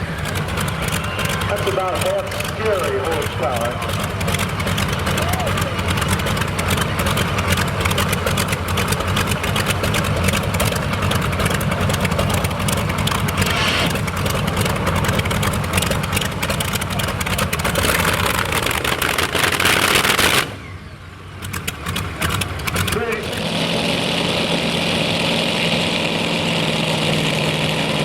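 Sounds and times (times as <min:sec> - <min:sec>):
crackling exhaust: 0:00.0 - 0:28.0
tractor engine running under load: 0:00.0 - 0:28.0.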